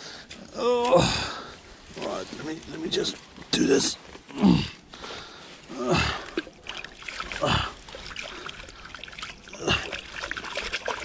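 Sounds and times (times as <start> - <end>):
water splashing and trickling: 0.9 - 4.0, 5.3 - 11.0.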